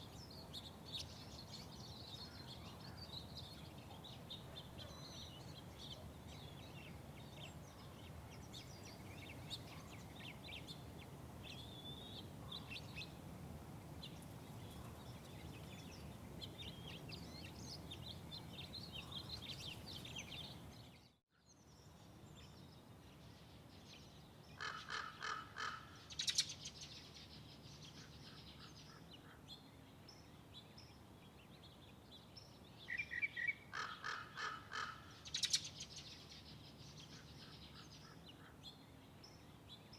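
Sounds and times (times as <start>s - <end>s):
small birds chirping: 0.0s - 34.5s, 35.2s - 39.9s.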